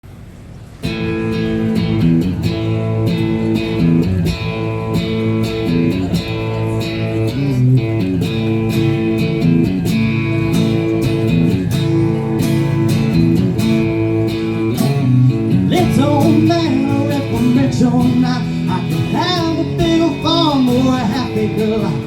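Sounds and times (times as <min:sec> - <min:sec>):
strummed guitar chords: 0:00.8 - 0:22.0.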